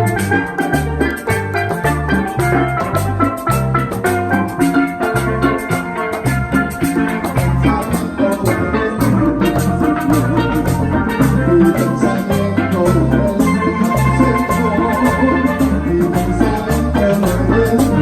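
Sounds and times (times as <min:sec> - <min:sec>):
bass line: 0:00.0 - 0:18.0
drum kit: 0:00.0 - 0:18.0
steelpan melody: 0:00.0 - 0:18.0.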